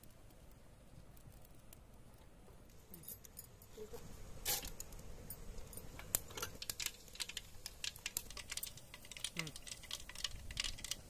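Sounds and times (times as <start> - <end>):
firewood crackling and popping: 0.0 - 11.0.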